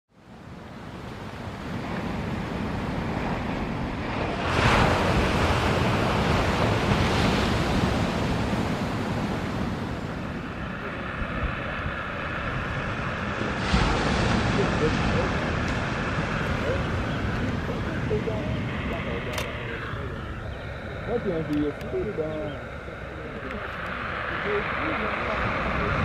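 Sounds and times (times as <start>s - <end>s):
wind on microphone: 0.2s - 26.0s.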